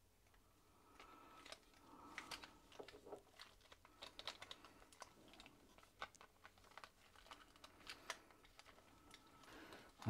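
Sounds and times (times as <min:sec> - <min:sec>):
plastic toy parts clicking: 0:01.0 - 0:10.0.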